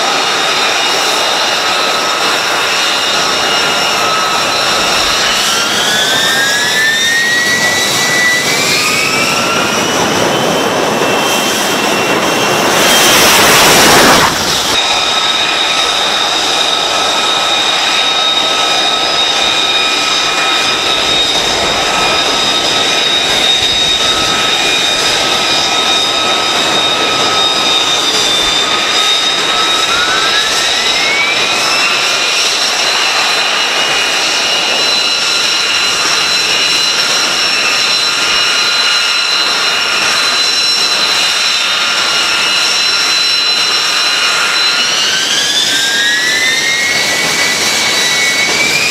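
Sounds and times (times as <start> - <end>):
jet engine whine: 0.0 - 48.9.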